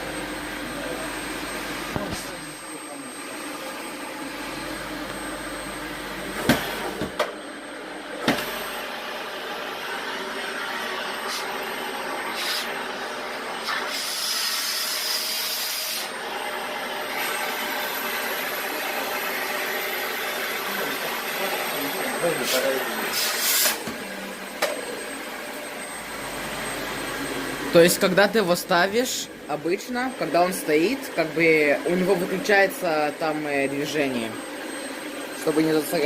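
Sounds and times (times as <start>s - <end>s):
vacuum cleaner whining: 0.0s - 36.0s.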